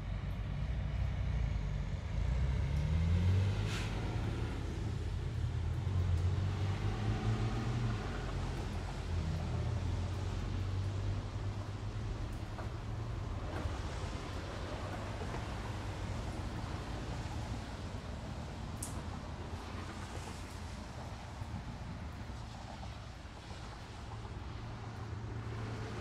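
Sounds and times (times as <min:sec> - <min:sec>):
passing cars and trucks: 0:00.0 - 0:26.0
wet tyres hissing on road: 0:02.3 - 0:26.0.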